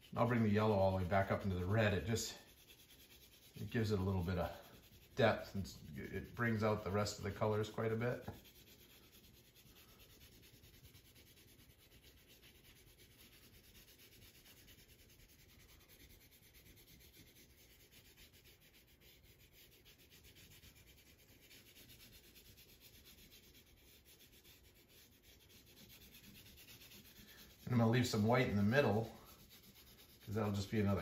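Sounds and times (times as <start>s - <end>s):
pencil rubbing on board: 0.0s - 31.0s.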